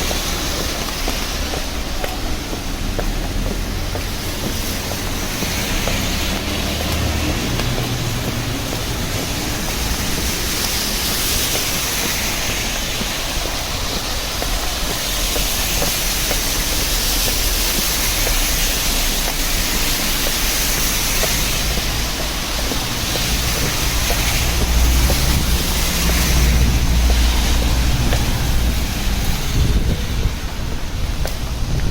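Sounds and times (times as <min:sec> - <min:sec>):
steady rain falling: 0:00.0 - 0:31.9
street traffic rumble: 0:00.0 - 0:31.9.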